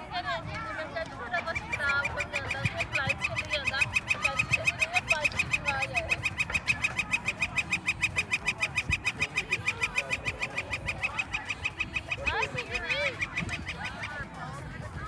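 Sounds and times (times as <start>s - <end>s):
pitch-sliding bird calls: 1.3s - 14.5s
rapid high bird chirps: 1.3s - 15.0s.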